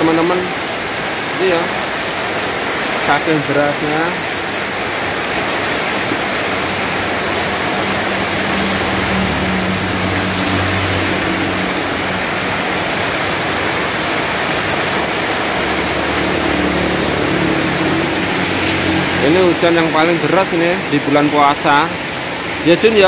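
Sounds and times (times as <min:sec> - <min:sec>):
heavy rain on road: 0:00.0 - 0:23.0
vehicle engine humming: 0:04.3 - 0:23.0.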